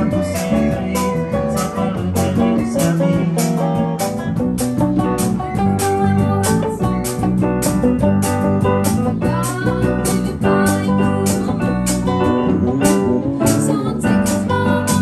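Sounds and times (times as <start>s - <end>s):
acoustic guitar: 0.0s - 15.0s
bass guitar: 0.0s - 15.0s
electric guitar: 0.0s - 15.0s
keyboard: 0.0s - 15.0s.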